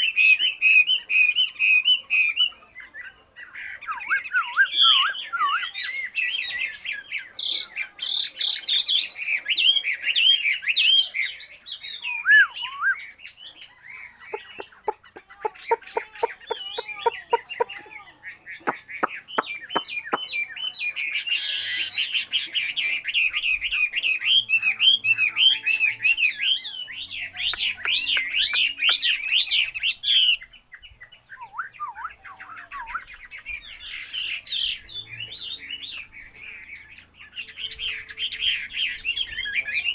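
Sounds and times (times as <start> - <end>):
songbird warbling song: 0.0 - 39.9.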